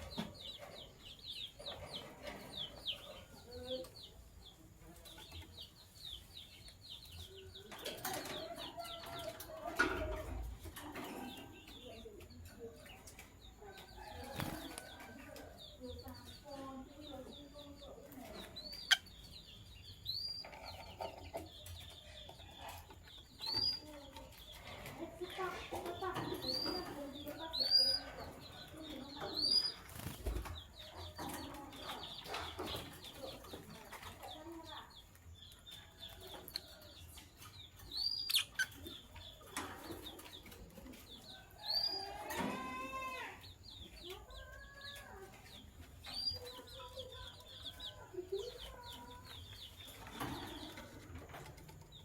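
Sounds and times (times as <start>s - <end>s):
lovebirds chirping and chattering: 0.0s - 52.0s.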